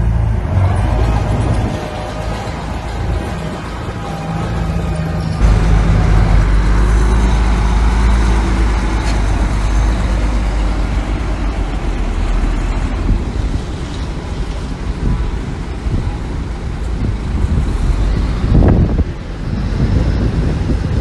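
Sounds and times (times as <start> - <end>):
heavy diesel engine humming: 0.0 - 21.0.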